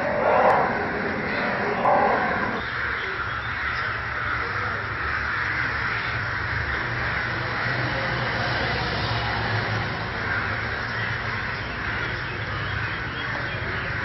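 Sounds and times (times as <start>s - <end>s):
crows cawing: 0.0s - 7.9s, 10.1s - 14.0s.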